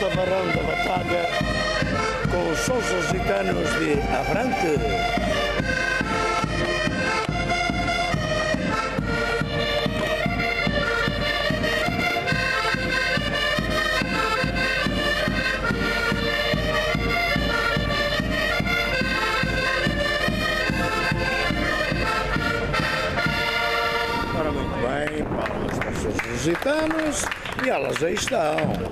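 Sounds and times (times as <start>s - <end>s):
bass drum beat: 0.0s - 24.4s
button accordions playing folk tune: 0.0s - 25.2s.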